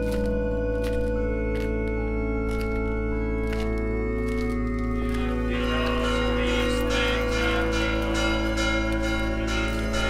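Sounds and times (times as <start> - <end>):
church bells ringing: 0.0 - 10.0.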